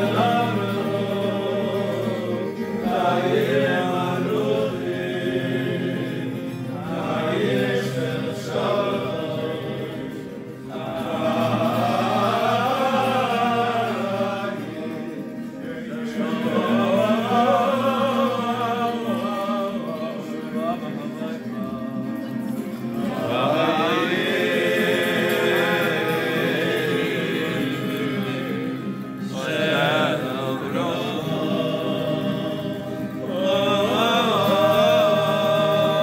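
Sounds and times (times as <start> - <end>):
men singing a slow melody: 0.0 - 36.0.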